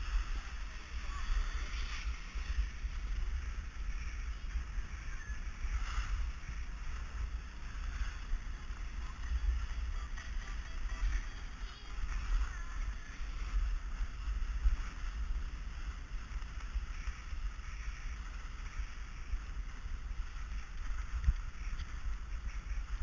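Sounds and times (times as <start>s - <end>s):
skis sliding on snow: 0.0s - 23.0s.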